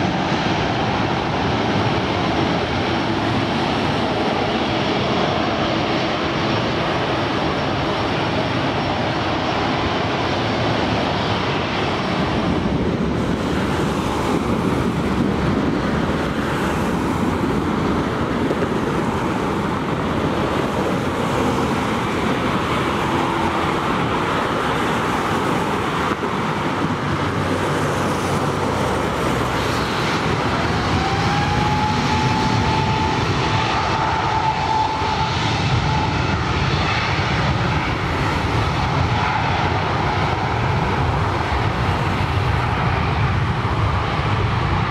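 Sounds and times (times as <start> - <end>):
airliner rumbling on runway: 0.0 - 44.9
jet airliner landing roar: 0.0 - 44.9
jet engines whining: 0.0 - 44.9.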